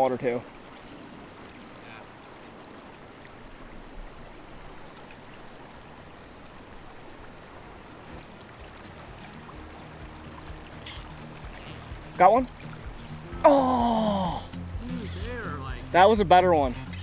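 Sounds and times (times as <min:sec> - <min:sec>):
river water rushing: 0:00.0 - 0:16.8.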